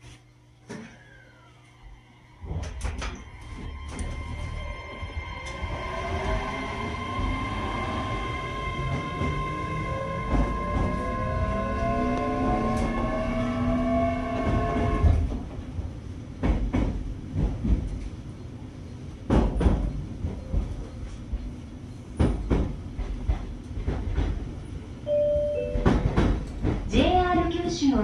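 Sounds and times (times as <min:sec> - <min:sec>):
electric train inverter whine: 0:00.0 - 0:28.0
train running rumble: 0:02.3 - 0:28.0.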